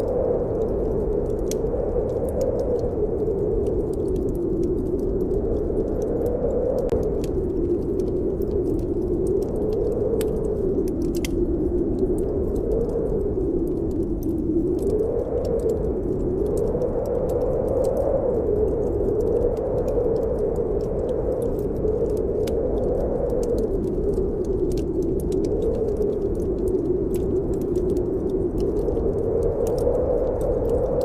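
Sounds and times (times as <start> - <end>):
fire crackling in fireplace: 0.0 - 31.0
wind howling: 0.0 - 31.0.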